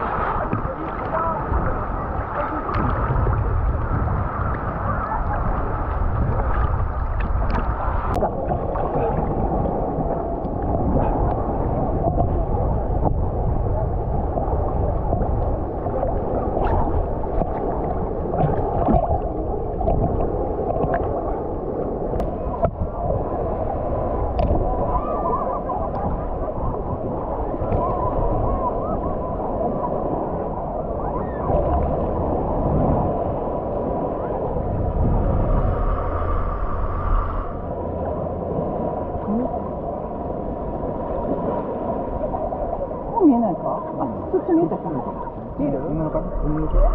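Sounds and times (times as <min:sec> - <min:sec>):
sea water sloshing: 0:00.0 - 0:46.9.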